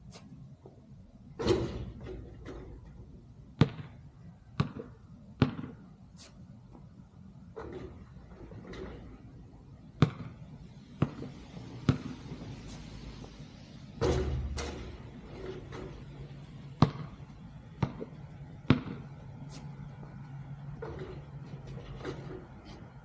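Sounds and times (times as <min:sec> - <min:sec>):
basketball bouncing on hard ground: 0:01.4 - 0:06.9, 0:07.5 - 0:12.8, 0:14.0 - 0:22.9.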